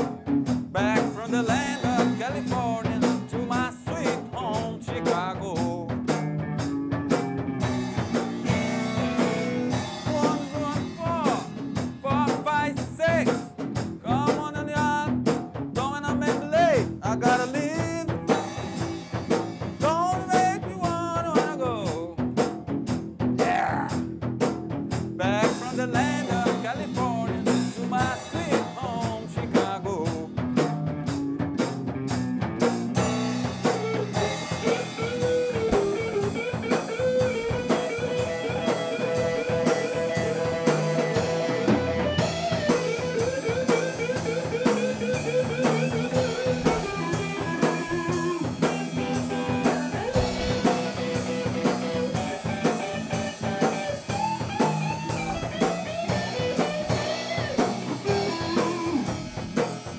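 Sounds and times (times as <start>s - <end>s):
bending lead melody: 0.0s - 21.8s, 22.6s - 59.9s
bass line: 0.0s - 59.9s
drum-kit beat: 0.0s - 59.9s.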